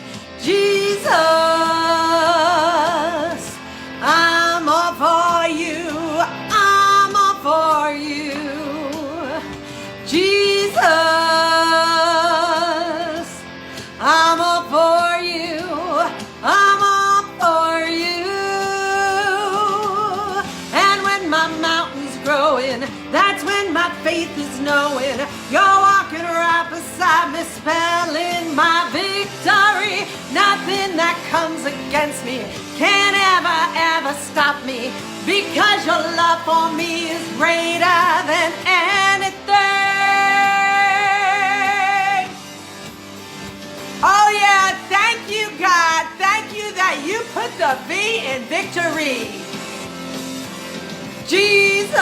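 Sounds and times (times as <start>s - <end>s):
woman singing gospel song: 0.0s - 42.4s, 44.0s - 49.6s, 51.3s - 52.0s.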